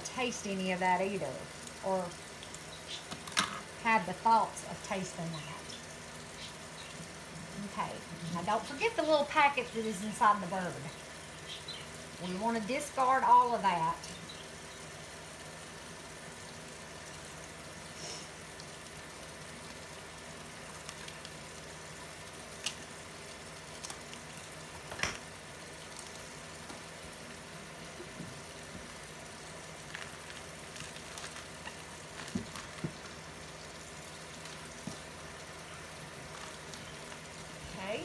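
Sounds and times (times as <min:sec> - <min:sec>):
water running from a tap: 0:00.0 - 0:38.0.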